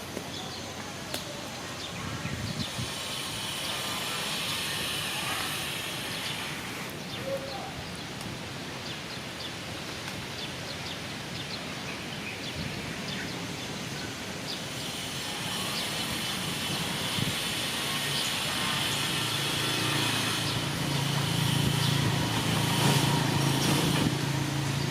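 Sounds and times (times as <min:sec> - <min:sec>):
wind: 0:00.0 - 0:24.9.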